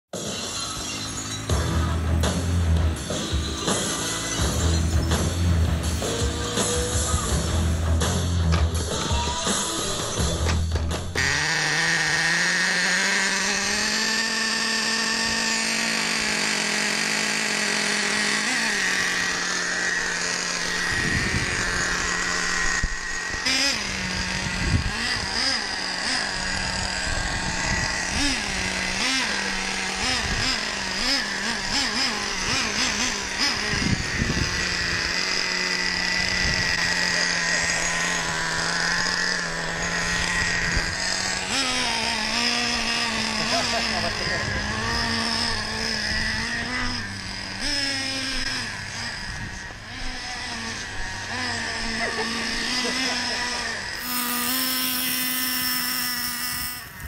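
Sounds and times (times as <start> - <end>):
rc car engine idling and revving: 0.1 - 57.0.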